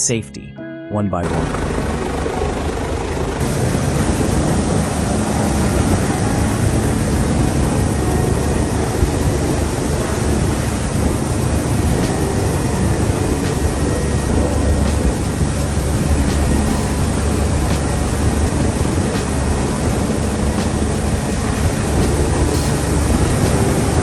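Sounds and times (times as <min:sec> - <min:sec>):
helicopter hovering: 0:01.1 - 0:24.0.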